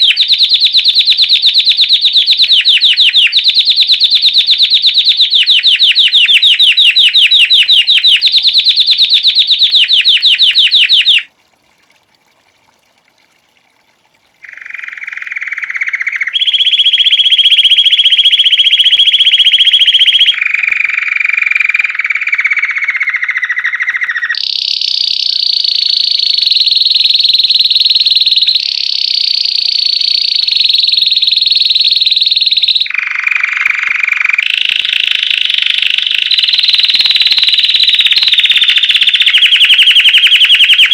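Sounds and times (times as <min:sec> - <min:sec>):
canary singing trills: 0:00.0 - 0:11.3, 0:14.4 - 0:40.9.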